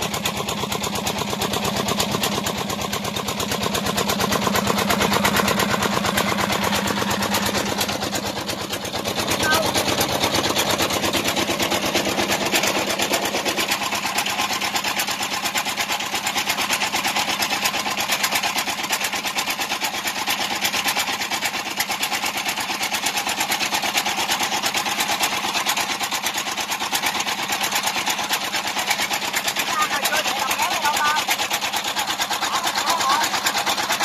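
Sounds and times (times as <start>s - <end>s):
diesel engine chugging: 0.0s - 34.0s.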